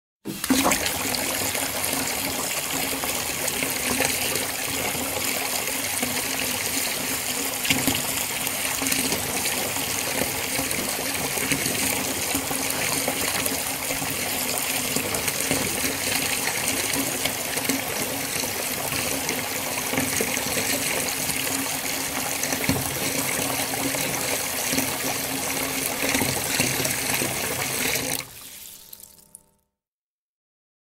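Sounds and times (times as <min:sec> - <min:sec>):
water pouring into water: 0:00.3 - 0:29.4.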